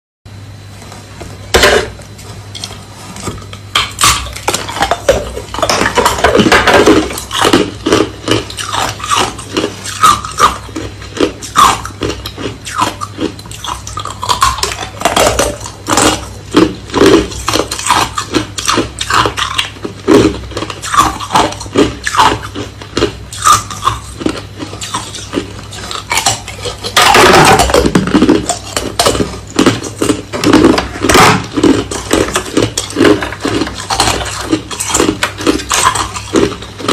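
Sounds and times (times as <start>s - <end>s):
crushed ice being chewed: 1.6s - 36.9s.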